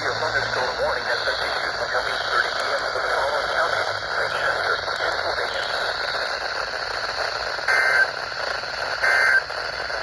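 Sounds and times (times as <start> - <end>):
digital data tone bursts: 0.0 - 10.0
radio static hiss: 0.0 - 10.0.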